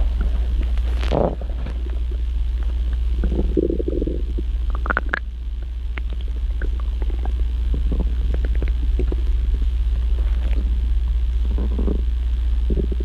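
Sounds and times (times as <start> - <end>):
low stomach rumble: 0.0 - 13.0
stomach gurgling: 0.0 - 13.0.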